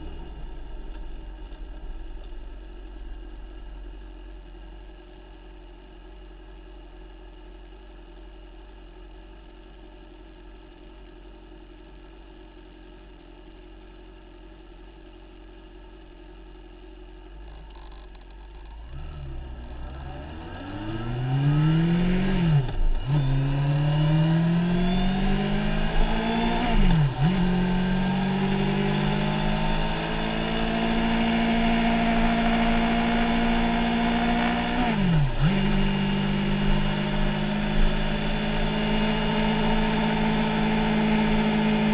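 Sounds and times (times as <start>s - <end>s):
motorcycle engine idling and accelerating: 0.0s - 41.9s.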